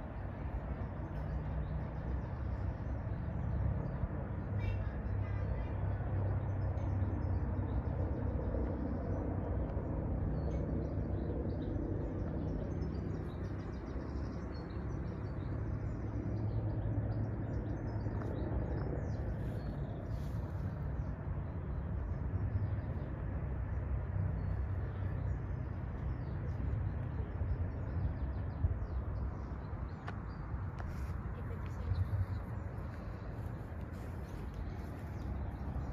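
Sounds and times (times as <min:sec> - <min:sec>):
distant helicopter drone: 0:00.0 - 0:35.9
small birds chirping: 0:00.0 - 0:35.9.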